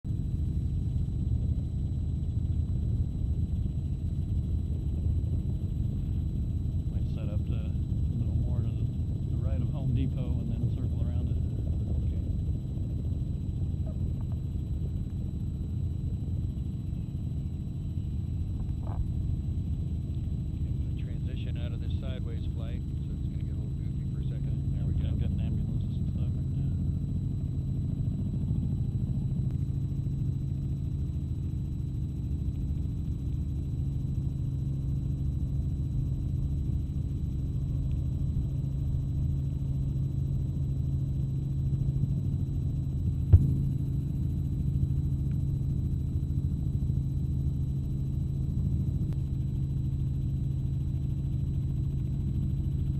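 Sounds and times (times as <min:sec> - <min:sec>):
helicopter engine and rotor rumble: 0:00.0 - 0:52.9
faint high whine: 0:00.1 - 0:52.9.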